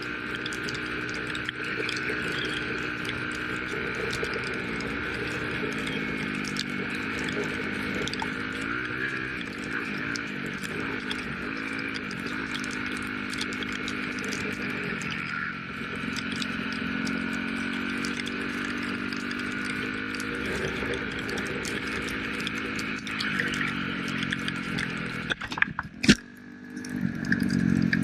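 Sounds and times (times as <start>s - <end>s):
dirt bike engine revving: 0.0s - 28.0s
sharp ticks: 0.0s - 28.0s.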